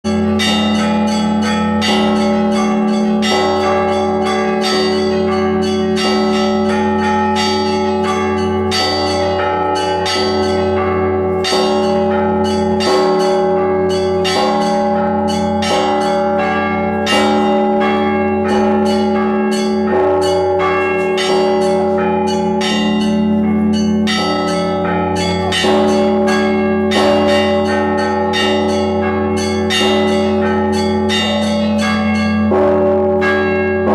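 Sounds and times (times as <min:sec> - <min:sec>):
small high church bells ringing: 0:00.0 - 0:33.9
large deep bells humming: 0:00.1 - 0:33.9.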